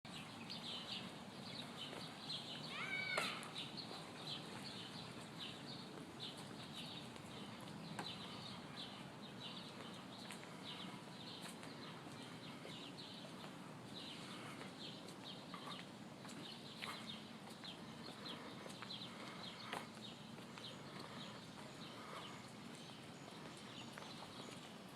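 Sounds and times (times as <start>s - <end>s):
drawn-out rising and falling bird call: 0.1s - 24.8s
birds chirping faintly: 0.1s - 24.9s.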